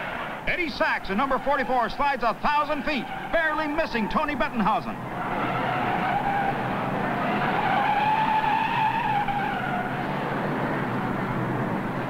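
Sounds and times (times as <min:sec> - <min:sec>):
race cars at speed: 0:00.0 - 0:12.0.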